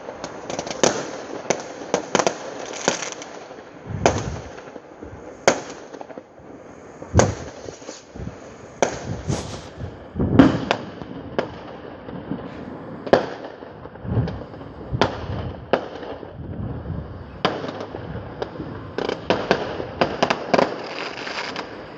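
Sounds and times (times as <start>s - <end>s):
fireworks banging and crackling: 0.0s - 21.9s.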